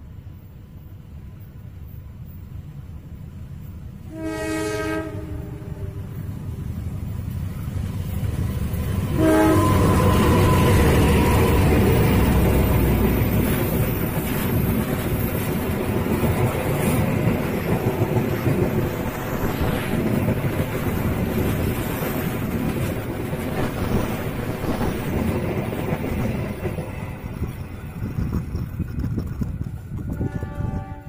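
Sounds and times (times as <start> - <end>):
diesel locomotive passing: 0.0 - 31.0
train wheels clattering on rails: 6.1 - 31.0.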